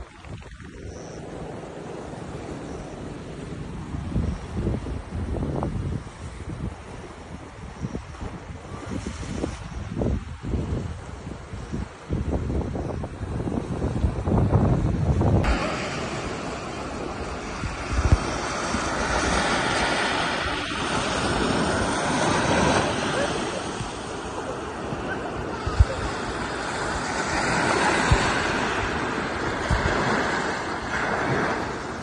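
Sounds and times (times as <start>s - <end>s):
wind thumps on microphone: 0.0s - 2.5s, 3.6s - 32.0s
surf breaking on beach: 0.0s - 32.0s.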